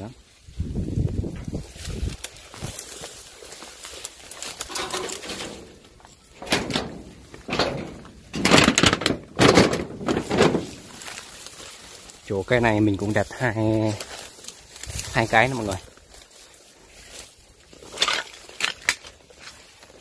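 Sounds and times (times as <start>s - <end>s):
leaves and branches rustling: 0.0s - 20.0s.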